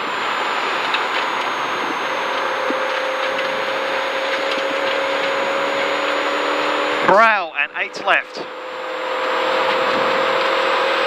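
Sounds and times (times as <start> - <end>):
car engine at steady pitch: 0.0 - 11.0.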